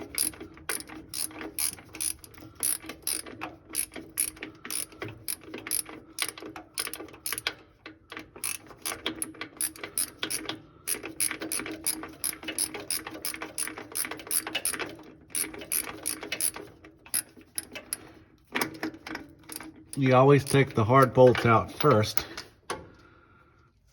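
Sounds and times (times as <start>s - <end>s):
hand ratchet clicking: 0.0s - 22.8s.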